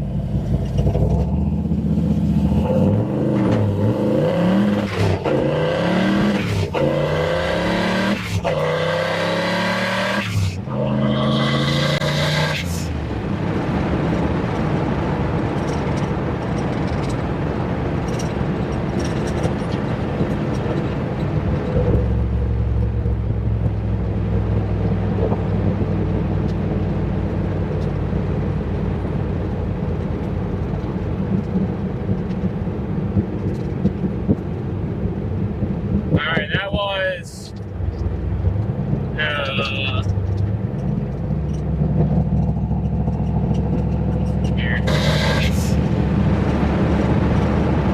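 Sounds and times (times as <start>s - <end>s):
car engine accelerating: 0.0s - 36.5s, 37.4s - 47.9s.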